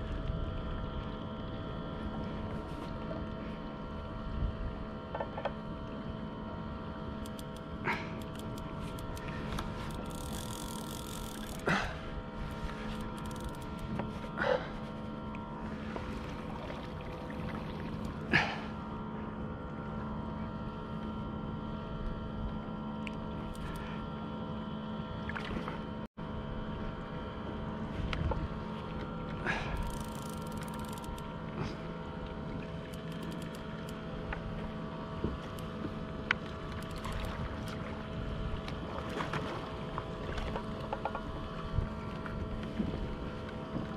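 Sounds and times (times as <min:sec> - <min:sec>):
steady hum: 0:00.0 - 0:43.9
water lapping against a kayak hull: 0:00.0 - 0:43.9.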